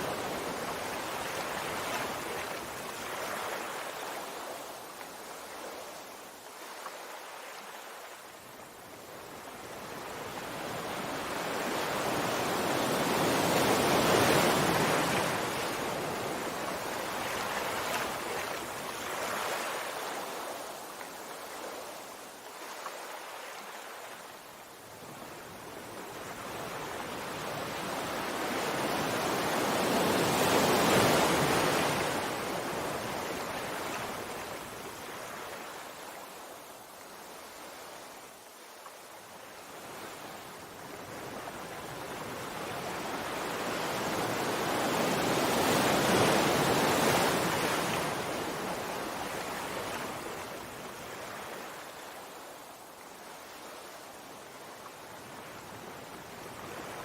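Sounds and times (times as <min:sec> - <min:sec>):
sea waves washing ashore: 0:00.0 - 0:57.0.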